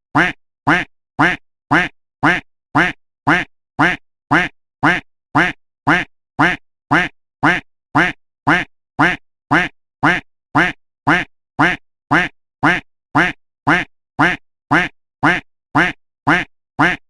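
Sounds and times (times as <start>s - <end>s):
duck quacking: 0.2s - 17.0s.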